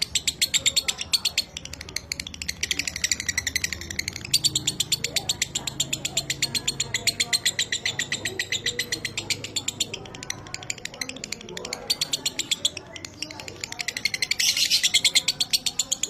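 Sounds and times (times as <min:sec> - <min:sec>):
lovebird chattering: 0:00.0 - 0:16.0.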